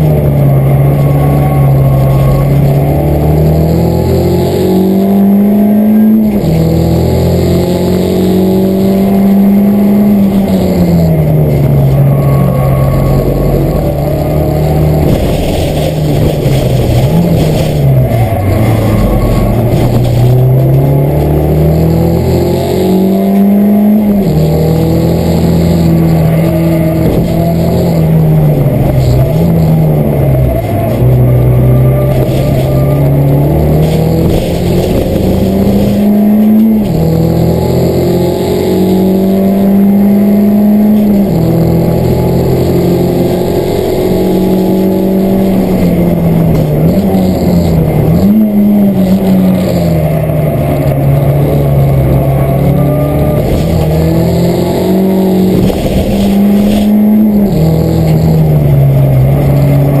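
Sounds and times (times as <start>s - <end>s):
race car engine: 0.0s - 60.0s.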